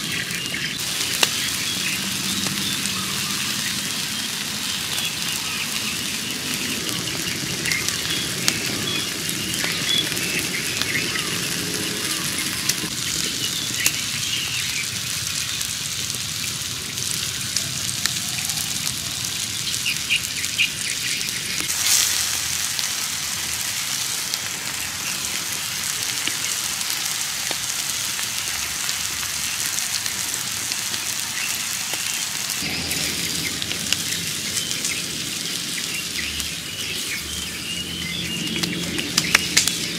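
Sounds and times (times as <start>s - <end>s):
small crackles: 0.0s - 39.9s
steaks sizzling on stone: 0.0s - 39.9s.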